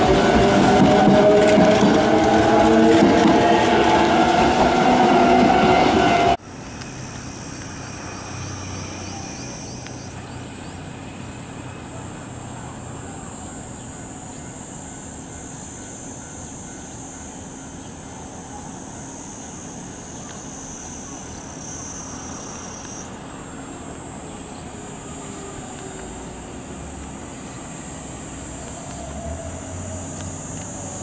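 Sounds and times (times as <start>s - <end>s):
cicadas chirring: 0.0s - 31.0s
faint electric train approaching: 0.0s - 31.0s.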